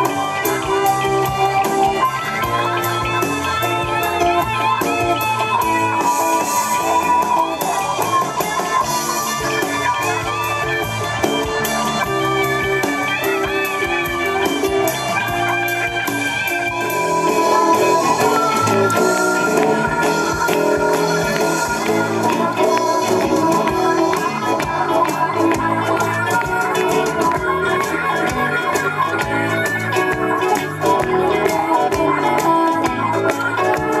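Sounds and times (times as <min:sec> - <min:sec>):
bass guitar: 0:00.0 - 0:34.0
drum kit: 0:00.0 - 0:34.0
electric guitar lead: 0:00.0 - 0:34.0.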